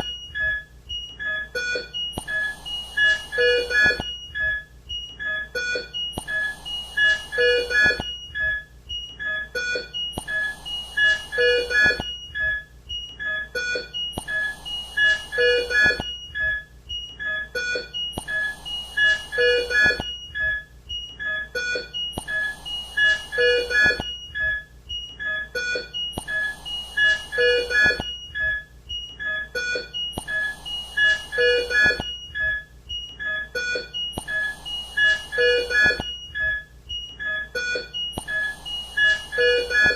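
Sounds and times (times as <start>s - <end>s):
patient monitor beeping: 0.0s - 39.9s.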